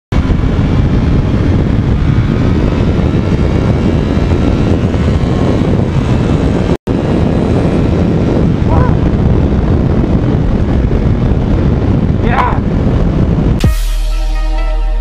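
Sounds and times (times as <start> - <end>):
wind buffeting microphone: 0.1 - 13.7
motorcycle engine: 0.1 - 15.0.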